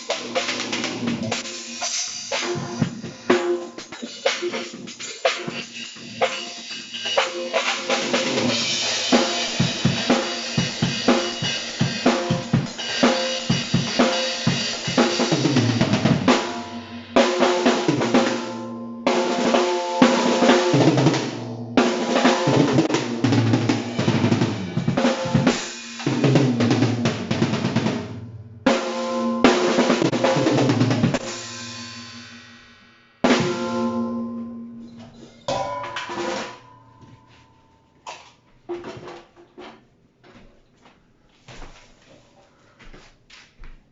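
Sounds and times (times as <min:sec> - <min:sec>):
acoustic drum kit playing: 0:00.0 - 0:37.4.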